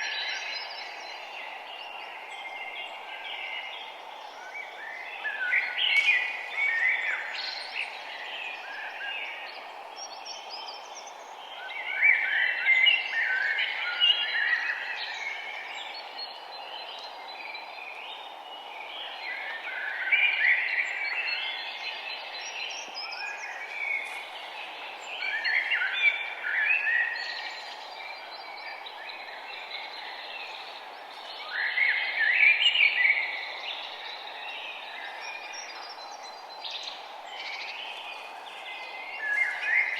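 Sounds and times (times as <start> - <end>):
outdoor background hiss: 0.0 - 39.9
songbird chirping and warbling: 0.0 - 39.9.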